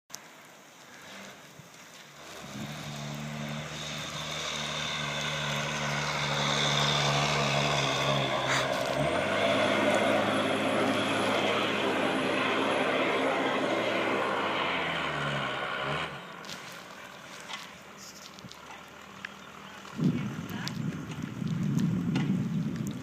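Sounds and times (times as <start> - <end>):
truck engine working hard: 2.2 - 22.4.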